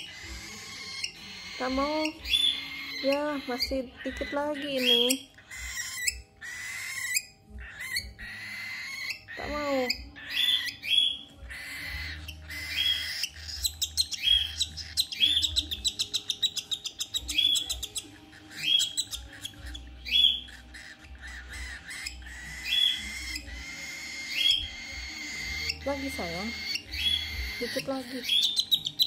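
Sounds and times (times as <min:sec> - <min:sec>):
cockatiel calling: 0:00.0 - 0:29.0.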